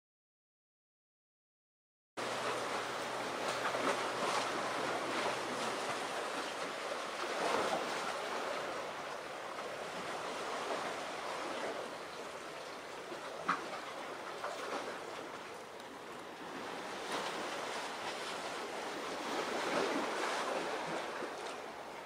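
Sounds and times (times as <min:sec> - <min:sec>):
sea waves washing: 0:02.2 - 0:22.0
wind: 0:02.2 - 0:22.0.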